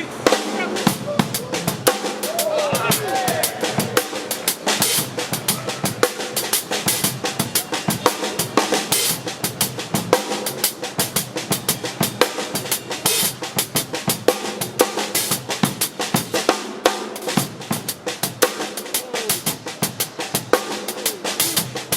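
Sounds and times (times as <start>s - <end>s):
drum kit playing fast groove: 0.0s - 21.9s.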